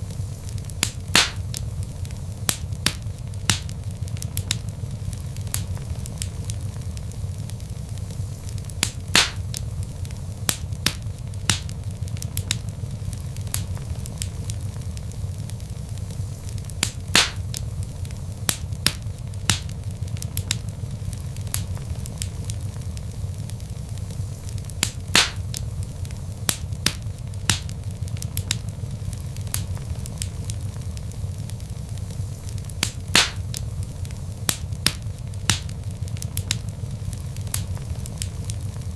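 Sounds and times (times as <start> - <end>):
loud fire snaps: 0.0 - 38.9
wood fire crackling: 0.0 - 38.9.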